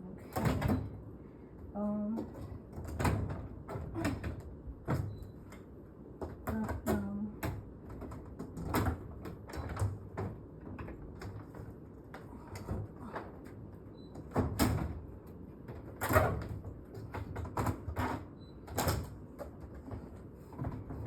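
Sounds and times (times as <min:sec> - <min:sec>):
window unit knocking and rattling: 0:00.2 - 0:01.1, 0:02.2 - 0:21.0.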